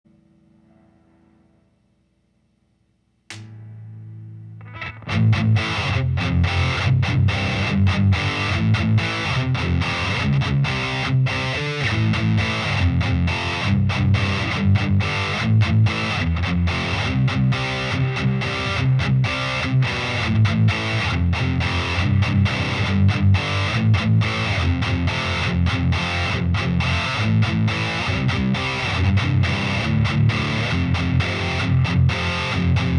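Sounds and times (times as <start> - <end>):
distorted electric guitar riff: 3.3 - 32.9.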